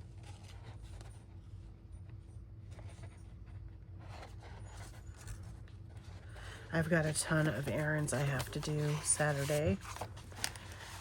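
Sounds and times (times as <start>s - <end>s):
low steady hum: 0.0s - 11.0s
paper rustling and scraping: 0.0s - 11.0s.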